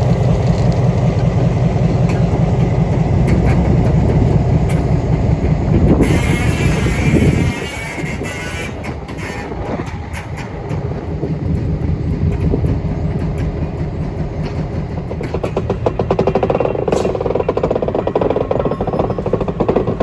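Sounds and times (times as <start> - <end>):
heavy vehicle engine rumbling: 0.0 - 20.0
rapid rhythmic engine beat: 0.0 - 20.0.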